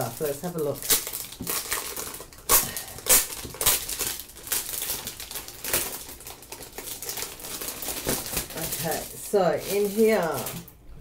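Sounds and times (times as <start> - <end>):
plastic sleeve crinkling: 0.0 - 10.9.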